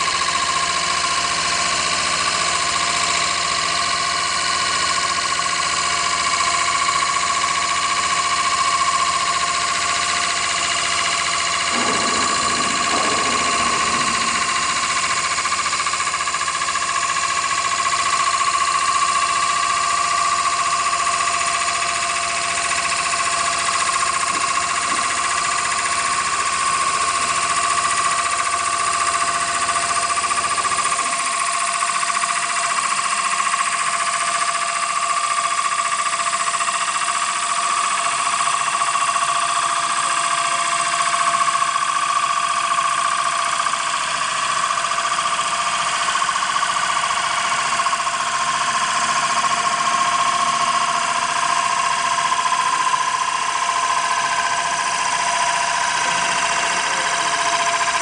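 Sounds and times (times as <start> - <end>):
wood lathe whining: 0.0 - 40.6, 41.2 - 58.0.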